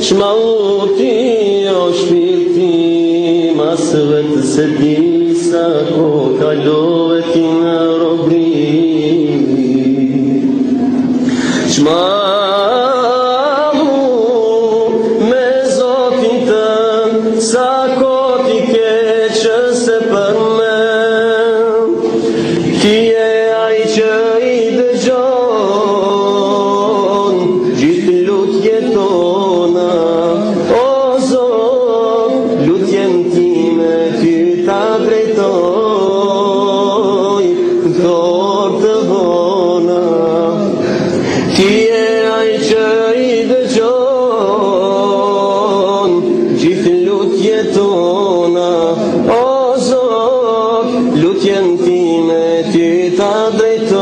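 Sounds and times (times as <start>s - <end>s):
man singing into microphone: 0.0s - 54.0s.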